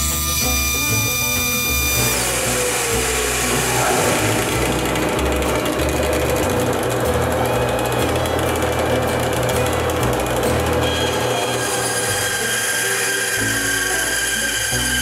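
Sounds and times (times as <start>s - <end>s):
band saw cutting wood: 0.0s - 15.0s
belt sander running: 0.0s - 15.0s.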